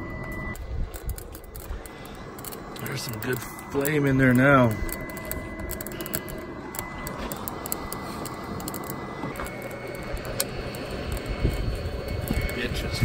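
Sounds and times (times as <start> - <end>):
burning wood crackling: 0.0 - 13.0
fan whirring whine: 0.0 - 13.0
fire rushing: 0.5 - 13.0.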